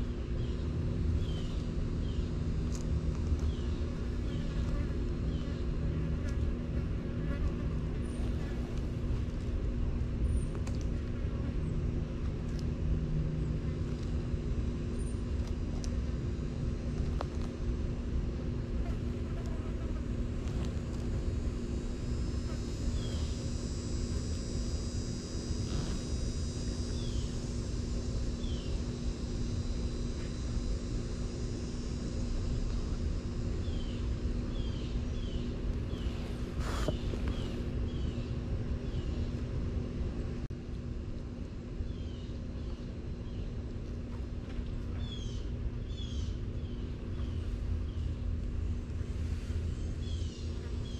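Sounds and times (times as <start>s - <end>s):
insect drone: 0.0s - 50.9s
low mechanical hum and rumble: 0.0s - 50.9s.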